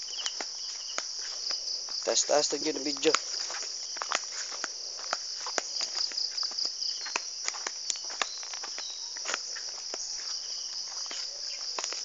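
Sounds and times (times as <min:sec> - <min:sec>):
footsteps through dry leaves: 0:00.0 - 0:12.0
high-pitched insect chorus: 0:00.0 - 0:12.0.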